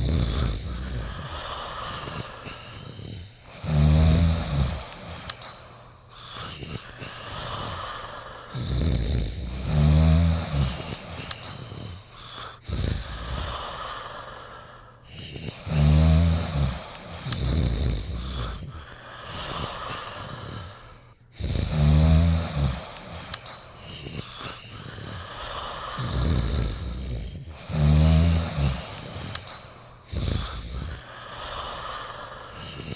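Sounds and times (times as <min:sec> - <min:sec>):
pet snoring: 0:00.0 - 0:05.4, 0:08.5 - 0:13.8, 0:15.1 - 0:20.7, 0:21.4 - 0:31.7
soft breathing: 0:00.0 - 0:32.9.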